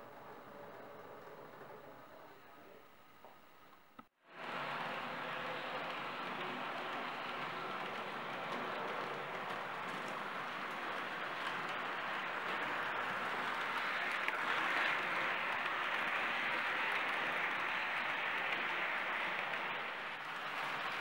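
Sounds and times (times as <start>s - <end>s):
model train running: 0.0s - 2.8s, 4.3s - 21.0s.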